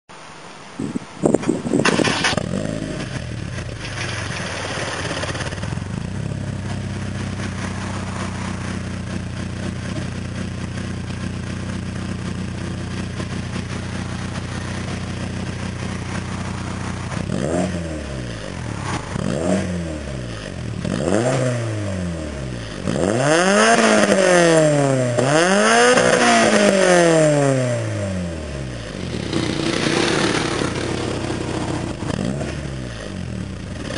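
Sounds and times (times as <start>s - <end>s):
car engine idling and revving: 1.2s - 33.9s.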